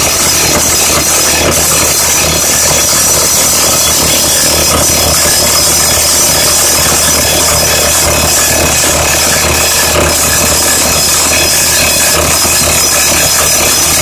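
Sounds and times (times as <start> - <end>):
rock drill hammering: 0.0 - 14.0.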